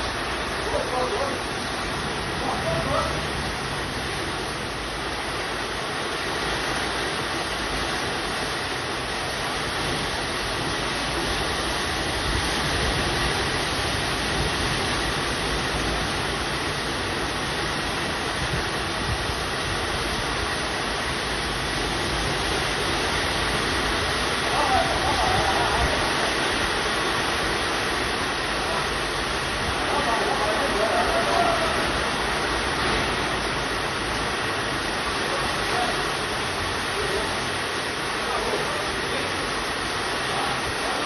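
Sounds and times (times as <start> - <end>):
strong wind blowing: 0.0 - 36.8.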